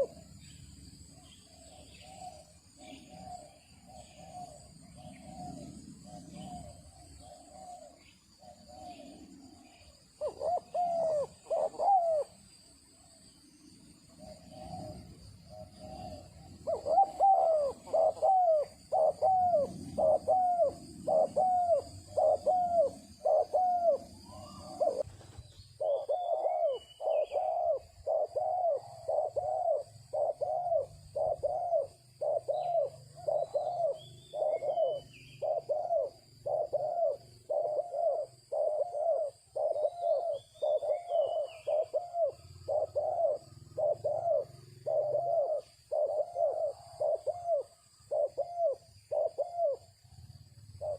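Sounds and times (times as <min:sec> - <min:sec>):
dove cooing: 0:00.0 - 0:50.9.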